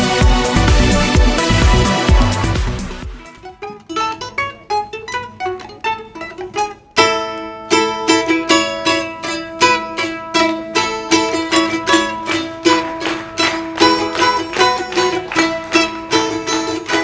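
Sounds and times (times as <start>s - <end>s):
balalaikas playing: 0.0s - 17.0s.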